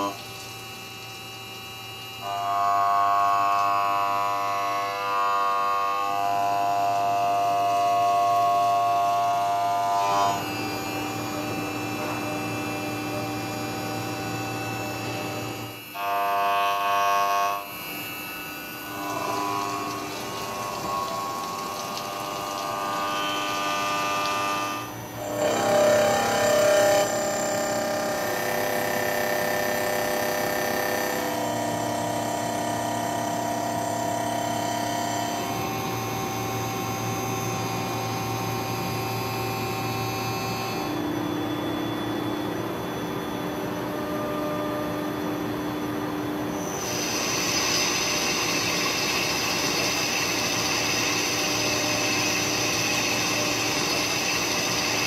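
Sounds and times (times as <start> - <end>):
machine cutting metal whine: 0.0 - 55.0.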